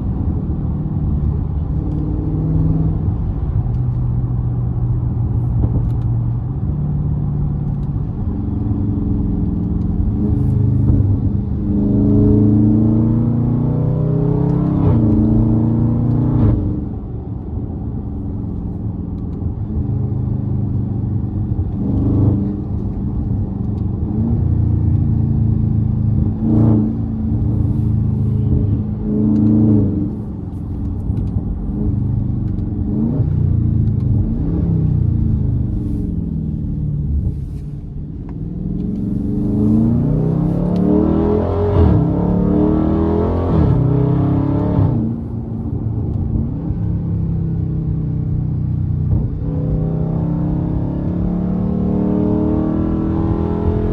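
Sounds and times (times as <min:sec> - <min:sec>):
car engine exhaust accelerating: 0:00.0 - 0:53.9.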